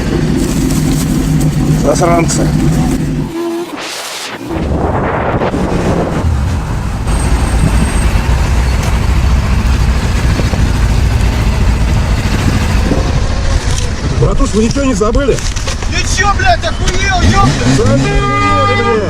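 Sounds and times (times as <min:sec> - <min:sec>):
road vehicle engine and tyres rumbling: 0:00.0 - 0:19.0.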